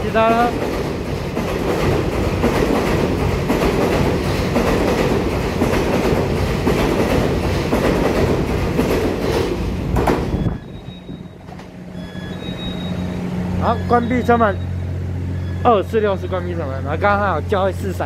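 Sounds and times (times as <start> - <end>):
electric train running past: 0.0 - 18.0.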